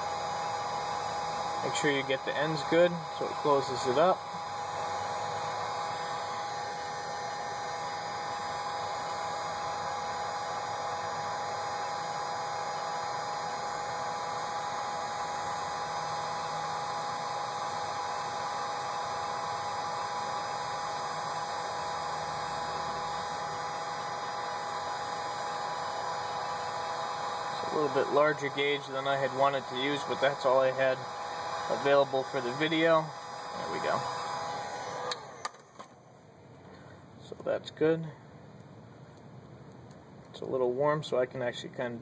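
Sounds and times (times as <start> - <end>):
heat gun fan whining: 0.0 - 42.0.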